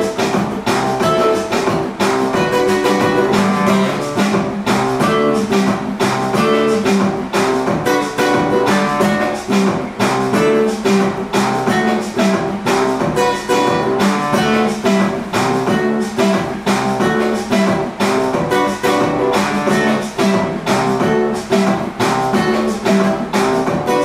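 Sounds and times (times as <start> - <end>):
guitar strumming chords: 0.0 - 24.0.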